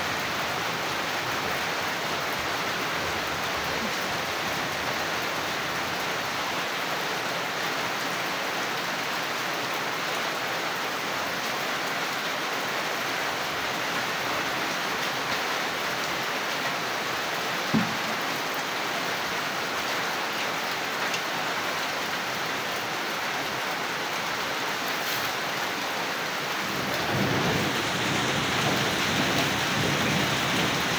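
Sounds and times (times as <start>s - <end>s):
heavy rain splashing into puddles: 0.0s - 30.9s.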